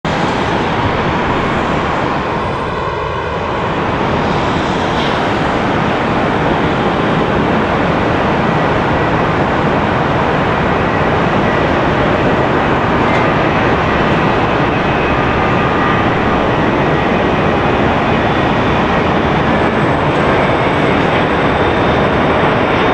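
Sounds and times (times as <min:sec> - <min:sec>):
jet airliner engines roaring: 0:00.0 - 0:22.9.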